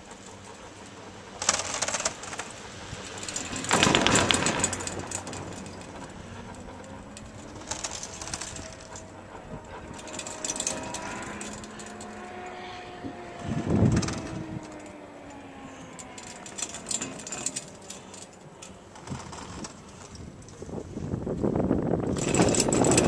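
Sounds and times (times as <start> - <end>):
chairlift mechanical hum: 0.0 - 23.0.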